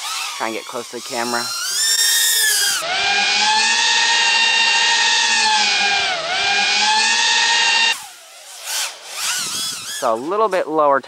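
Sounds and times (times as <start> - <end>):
racing drone whining: 0.0 - 11.0.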